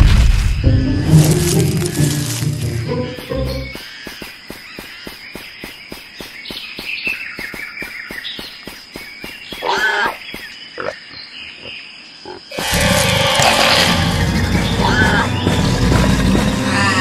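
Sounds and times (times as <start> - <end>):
frogs and insects chirping: 0.6 - 17.0.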